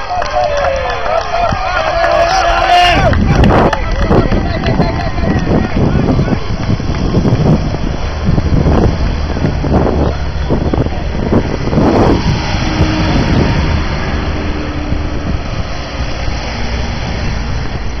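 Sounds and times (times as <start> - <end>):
vehicles driving past: 0.0 - 18.0
wind buffeting microphone: 0.0 - 18.0.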